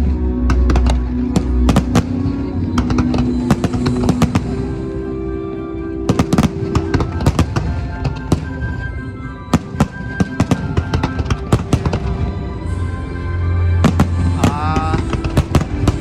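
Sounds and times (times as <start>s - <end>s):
music playing: 0.0s - 16.0s
fireworks bangs: 0.4s - 5.0s, 6.0s - 12.7s, 13.8s - 16.0s.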